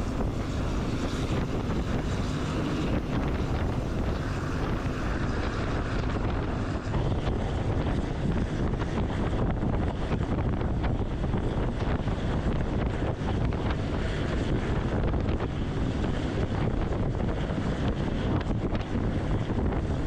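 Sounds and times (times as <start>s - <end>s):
car road and engine noise: 0.0s - 19.9s
wind rushing over microphone: 0.0s - 20.0s.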